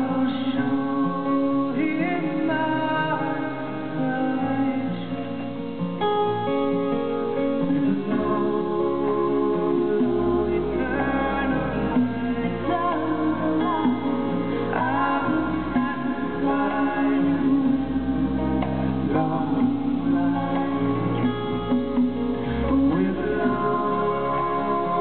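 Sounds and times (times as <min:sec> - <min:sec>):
acoustic guitar: 0:00.0 - 0:25.0
resonator guitar: 0:00.0 - 0:25.0.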